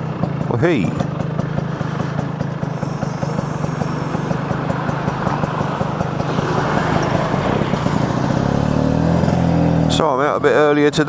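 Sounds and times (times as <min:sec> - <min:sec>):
road noise hiss: 0:00.0 - 0:10.7
motorcycle engine running: 0:00.0 - 0:11.0.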